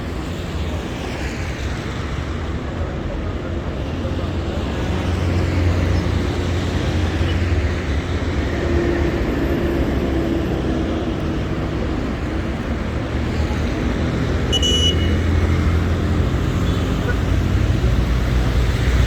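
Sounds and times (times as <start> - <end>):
road noise: 0.0 - 19.0
vehicle engines humming: 0.0 - 19.0.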